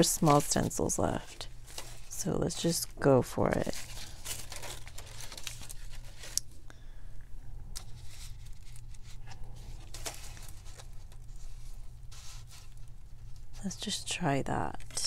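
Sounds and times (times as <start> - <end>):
papers rustling: 0.0 - 6.6, 7.8 - 14.0.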